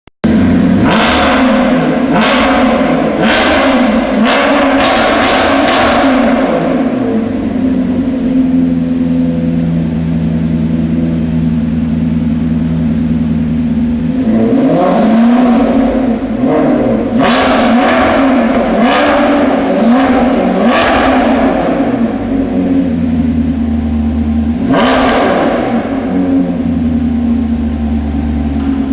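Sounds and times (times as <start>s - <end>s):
engine revving: 0.2s - 13.0s, 13.9s - 28.9s
car engine idling: 0.2s - 28.9s.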